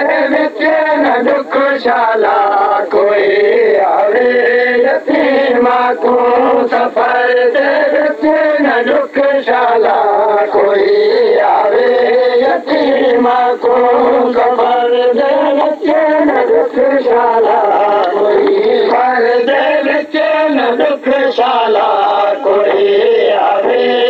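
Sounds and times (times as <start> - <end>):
man singing a chanted lament: 0.0 - 24.0.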